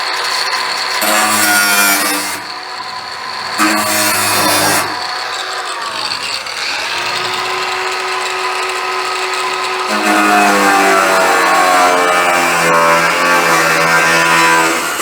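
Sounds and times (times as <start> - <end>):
power tool cutting sheet metal: 0.0 - 15.0.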